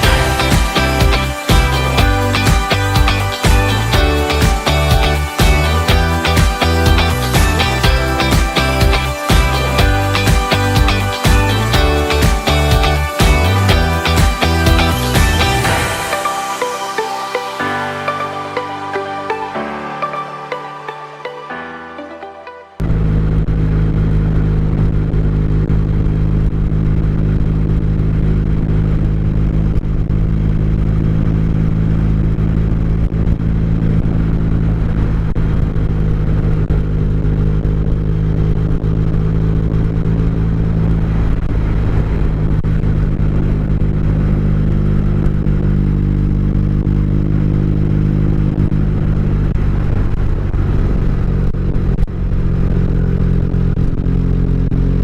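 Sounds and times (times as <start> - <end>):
motorcycle engine running: 0.0 - 16.1, 22.8 - 55.0
road and wind noise: 0.0 - 21.4, 22.8 - 55.0.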